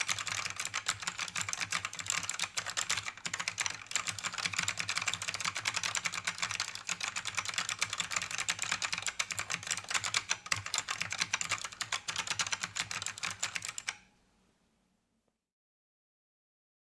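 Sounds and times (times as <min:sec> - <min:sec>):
fast typing on mechanical keyboard: 0:00.0 - 0:14.0.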